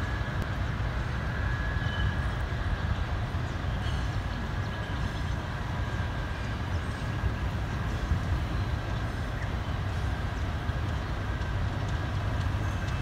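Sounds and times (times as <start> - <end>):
distant diesel locomotive rumbling: 0.0 - 13.0.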